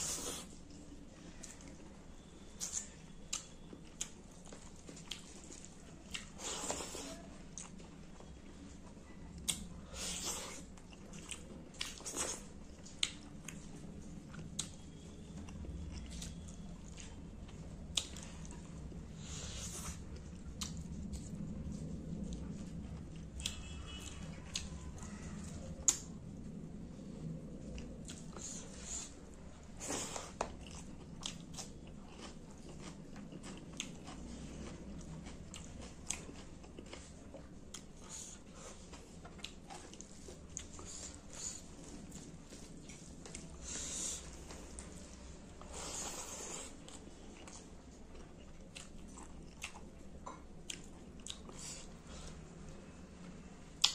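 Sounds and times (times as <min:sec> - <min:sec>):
man chewing food: 0:02.5 - 0:52.5.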